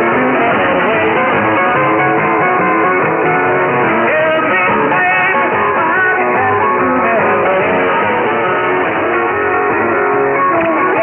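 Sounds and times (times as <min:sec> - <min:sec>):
rock music over shortwave radio: 0:00.0 - 0:11.0.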